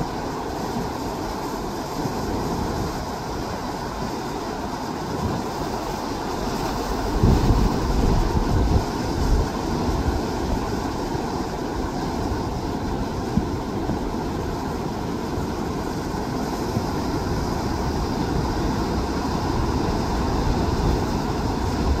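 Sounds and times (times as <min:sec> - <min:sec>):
waves breaking against rocks: 0:00.0 - 0:22.0.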